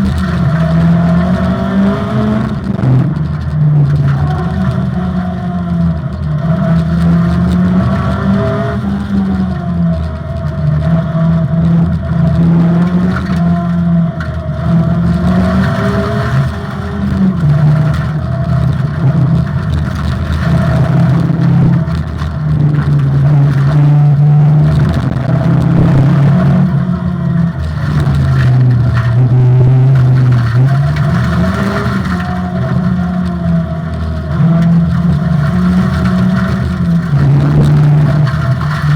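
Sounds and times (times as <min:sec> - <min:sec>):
rally car engine accelerating: 0:00.0 - 0:38.9.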